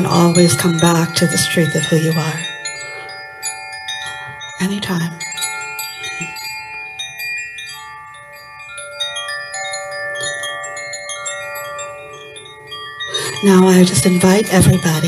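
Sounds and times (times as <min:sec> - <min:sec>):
wooden chime rods ringing: 0:00.0 - 0:15.0.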